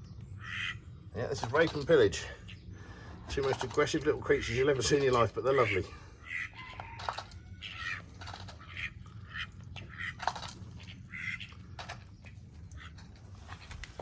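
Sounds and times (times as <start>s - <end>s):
ducks quacking: 0.3s - 13.7s.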